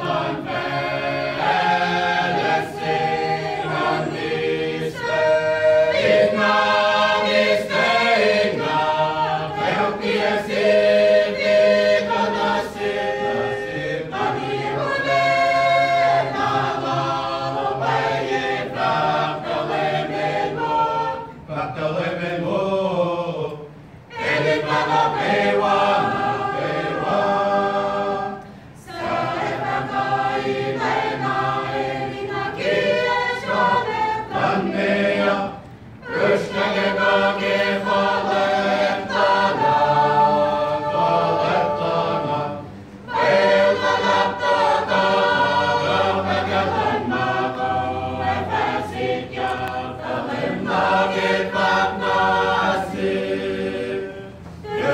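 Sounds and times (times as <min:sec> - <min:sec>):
mixed choir singing a cappella: 0:00.0 - 0:54.9.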